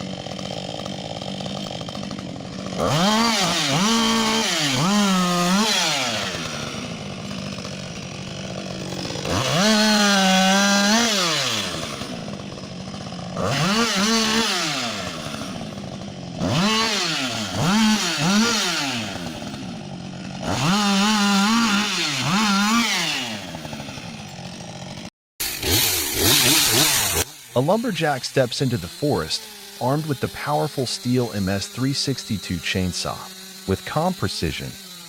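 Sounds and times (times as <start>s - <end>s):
another chainsaw: 0.0s - 35.0s
chainsaw revving: 0.0s - 35.0s.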